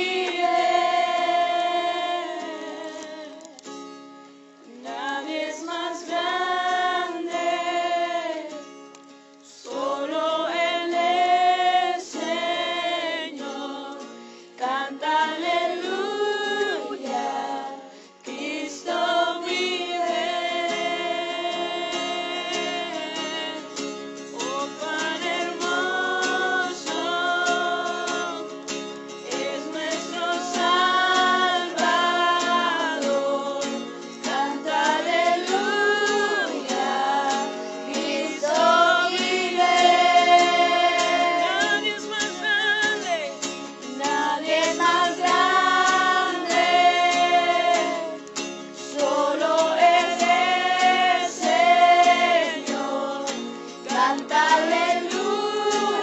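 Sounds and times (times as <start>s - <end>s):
voices singing worship song: 0.0s - 3.8s, 4.6s - 56.0s
guitar: 0.0s - 56.0s.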